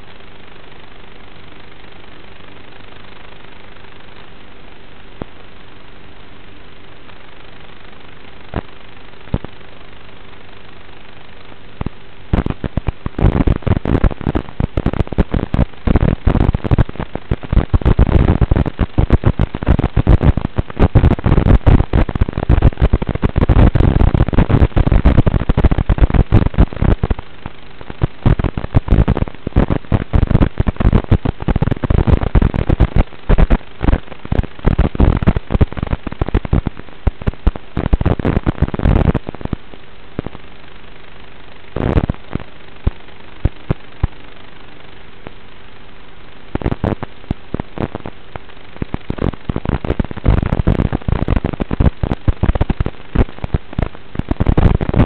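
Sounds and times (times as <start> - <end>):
faint steady hum: 0.0 - 55.0
harsh crackling radio static: 0.0 - 55.0.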